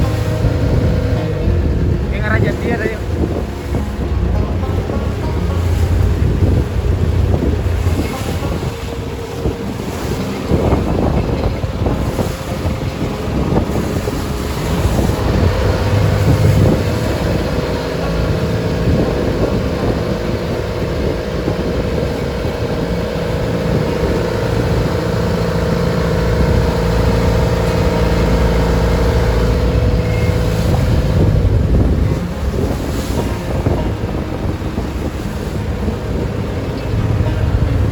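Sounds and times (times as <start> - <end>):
boat engine humming: 0.0 - 37.9
waves against hull: 0.0 - 37.9
wind buffeting microphone: 0.0 - 37.9.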